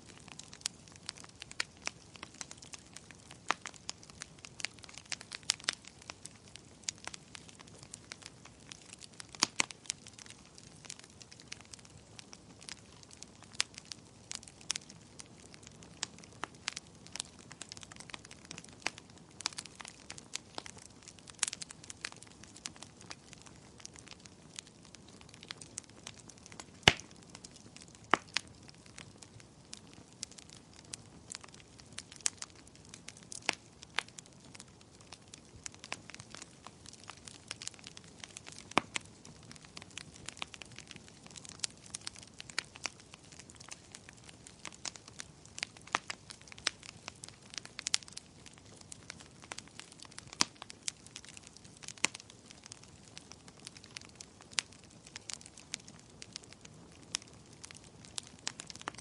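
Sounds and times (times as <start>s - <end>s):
soft steady hiss: 0.0s - 59.0s
wood fire crackling: 0.0s - 59.0s.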